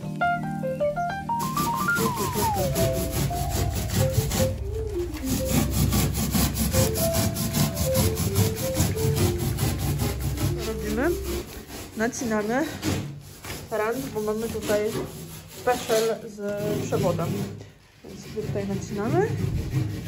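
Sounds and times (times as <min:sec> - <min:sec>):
hand saw cutting polystyrene: 0:01.3 - 0:20.0.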